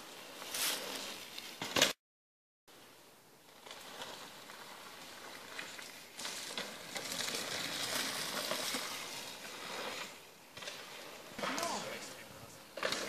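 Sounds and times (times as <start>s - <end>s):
bike tyres crunching over dirt: 0.0s - 2.0s, 2.7s - 13.0s.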